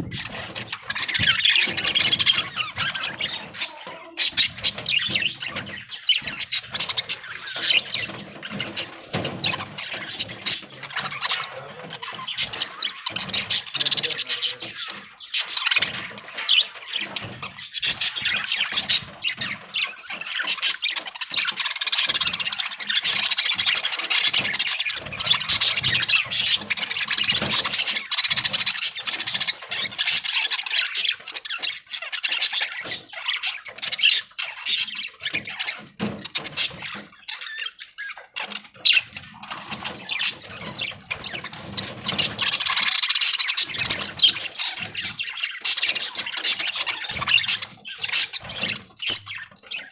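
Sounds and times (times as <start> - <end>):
budgerigars chattering: 0.0 - 49.9.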